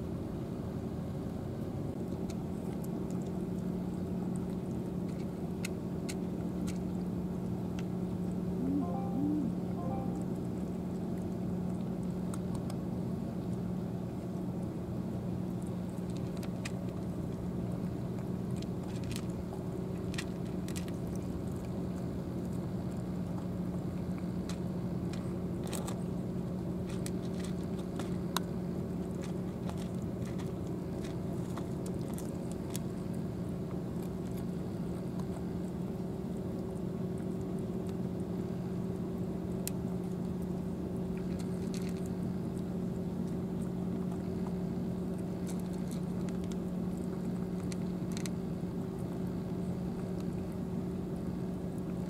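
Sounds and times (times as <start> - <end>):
steady low hum: 0.0 - 52.0
cats crunching dry food: 2.0 - 9.1, 11.1 - 52.0.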